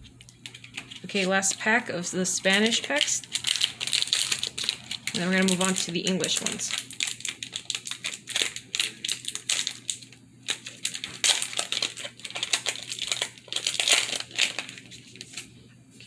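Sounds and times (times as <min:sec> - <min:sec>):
foil wrapper crinkling: 0:00.0 - 0:15.5.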